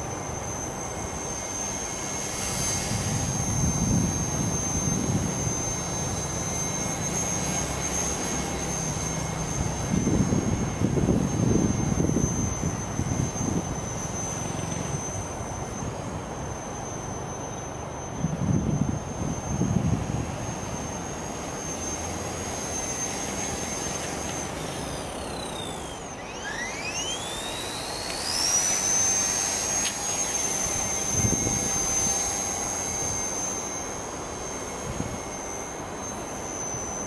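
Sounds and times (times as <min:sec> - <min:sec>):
micro helicopter rotor whine: 0:00.0 - 0:37.0.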